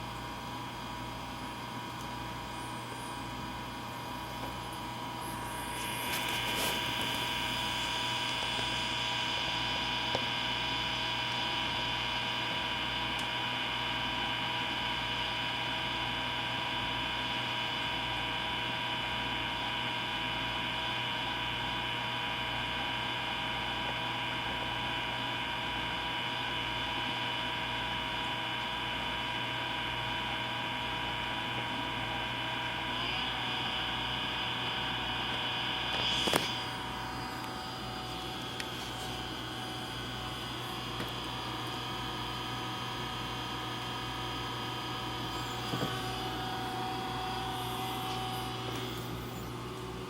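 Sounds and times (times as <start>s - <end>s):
aquarium pump whining: 0.0s - 50.0s.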